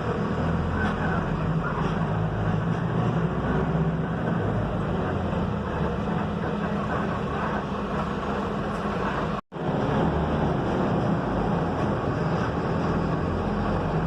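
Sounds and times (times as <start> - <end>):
bus engine running: 0.0 - 14.0
road rumble: 0.0 - 14.0.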